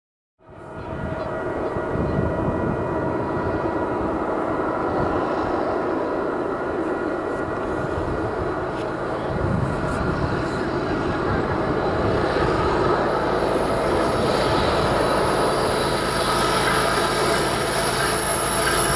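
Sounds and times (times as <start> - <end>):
locomotive whine: 0.4 - 18.9
diesel locomotive rumbling: 0.5 - 18.9.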